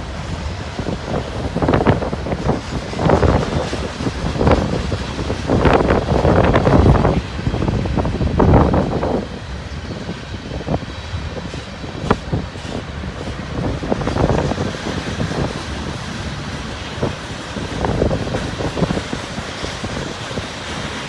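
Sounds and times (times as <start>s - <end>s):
train cars clanking: 0.0s - 21.0s
train wheels rumbling on track: 0.0s - 21.0s.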